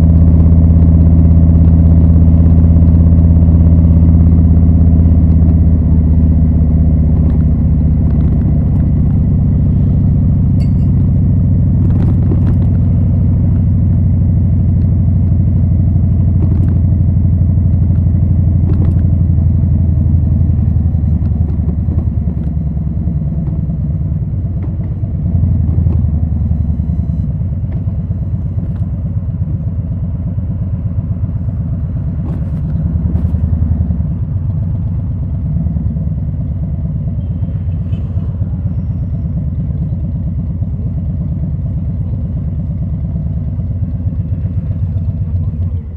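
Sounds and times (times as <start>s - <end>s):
motorcycle engine pulsing exhaust: 0.0s - 45.9s.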